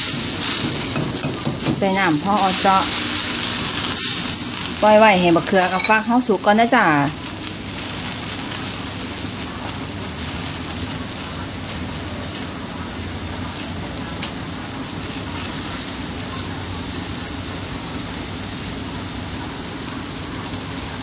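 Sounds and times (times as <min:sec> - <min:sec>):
curry sizzling and bubbling in a wok: 0:00.0 - 0:21.0.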